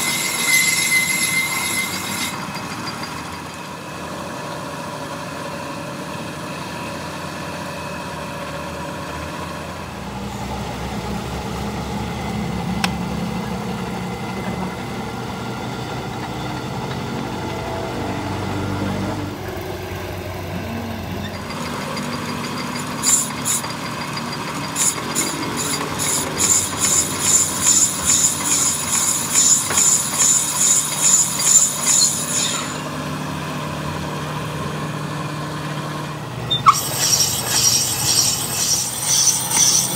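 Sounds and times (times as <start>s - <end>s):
workshop machinery humming: 0.0s - 39.9s.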